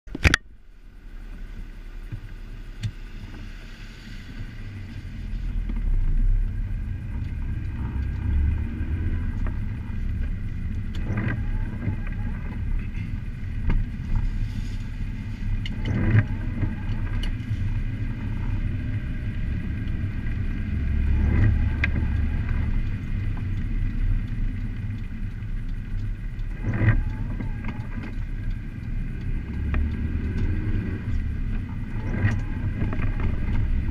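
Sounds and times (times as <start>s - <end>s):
engine and tyre rumble: 0.0s - 33.9s.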